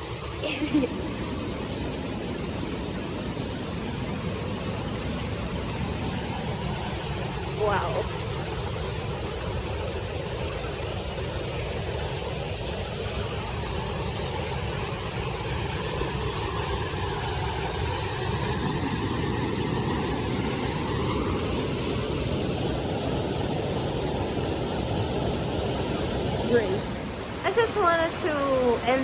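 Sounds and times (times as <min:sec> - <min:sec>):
waterfall roaring: 0:00.0 - 0:29.0.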